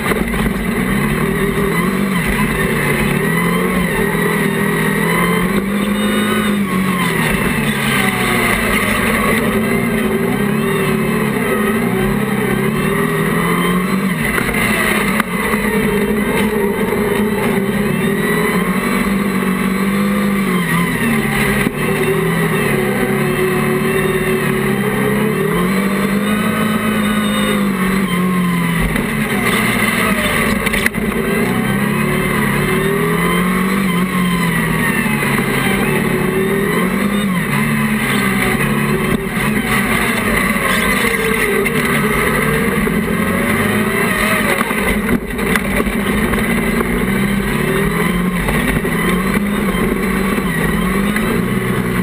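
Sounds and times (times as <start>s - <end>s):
race buggy engine revving: 0.0s - 52.0s.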